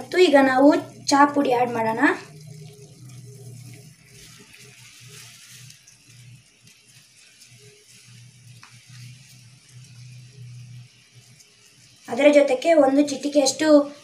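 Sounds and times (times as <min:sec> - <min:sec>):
low hum: 0:00.0 - 0:13.7
water boiling in a saucepan: 0:00.0 - 0:14.0.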